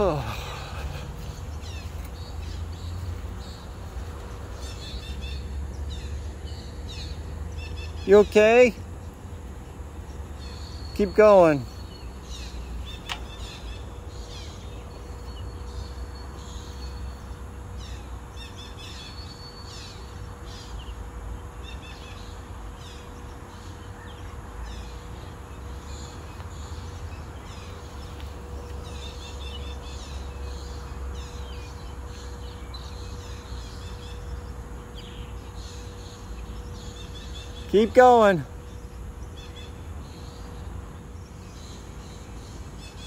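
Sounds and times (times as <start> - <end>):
faint steady hum: 0.0 - 43.0
small birds chirping: 0.0 - 43.0.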